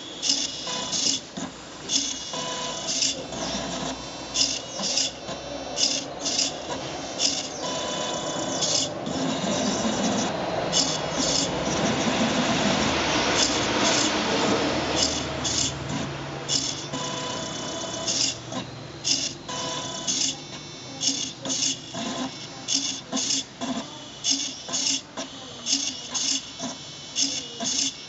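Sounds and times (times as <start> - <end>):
small motors whirring: 0.0 - 28.0.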